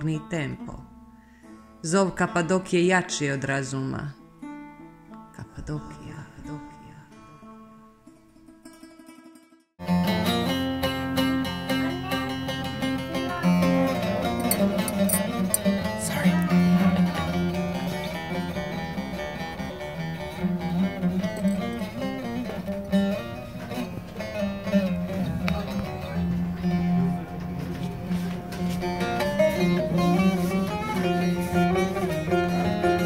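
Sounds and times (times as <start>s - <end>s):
plucked lute melody with drone: 4.1s - 33.0s.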